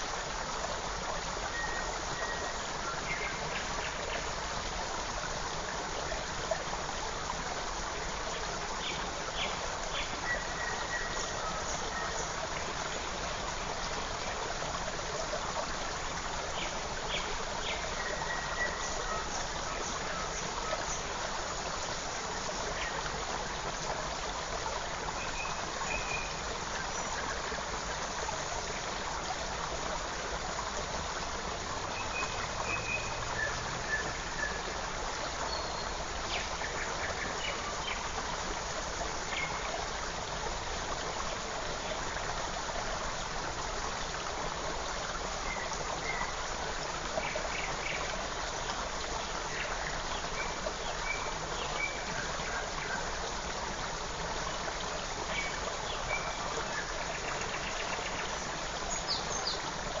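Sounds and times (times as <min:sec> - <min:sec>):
creek running over stones: 0:00.0 - 1:00.0.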